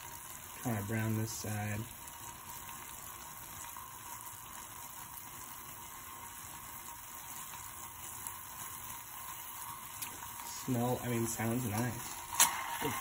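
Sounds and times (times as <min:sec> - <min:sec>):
tofu sizzling in oil: 0:00.0 - 0:13.0.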